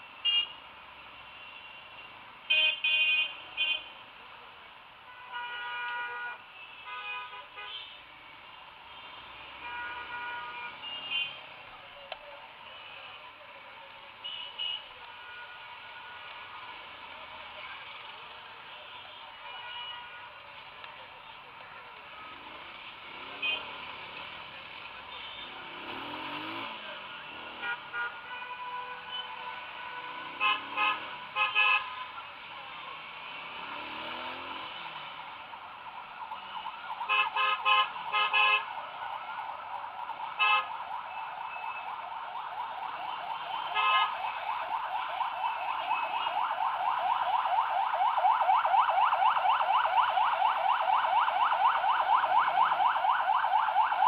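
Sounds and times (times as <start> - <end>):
city traffic: 0.0 - 54.0.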